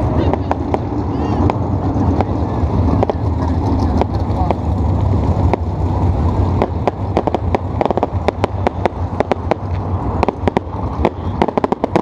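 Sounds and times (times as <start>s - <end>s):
fireworks popping and banging: 0.0s - 12.0s
steady low rumble: 0.0s - 12.0s.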